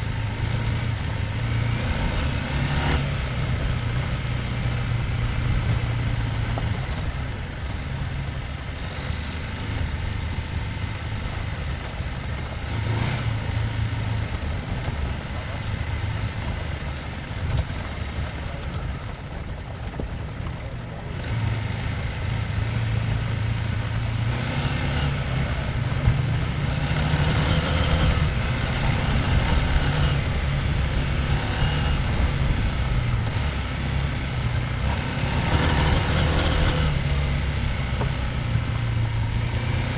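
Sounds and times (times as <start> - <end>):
motorcycle engine revving: 0.0 - 19.3, 21.1 - 39.9.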